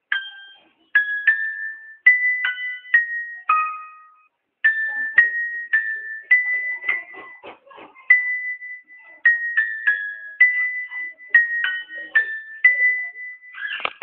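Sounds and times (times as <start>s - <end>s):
keyboard melody: 0.0s - 7.4s, 8.0s - 13.8s.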